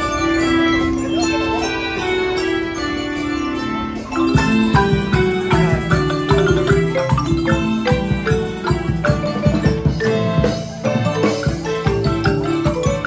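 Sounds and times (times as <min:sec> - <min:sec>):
horns holding notes: 0:00.0 - 0:13.0
marimba played with mallets: 0:00.0 - 0:13.0.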